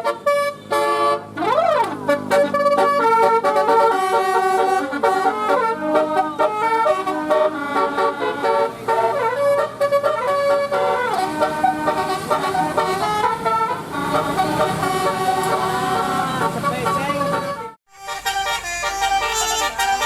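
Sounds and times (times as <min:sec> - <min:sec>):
musical air horn melody: 0:00.0 - 0:20.0.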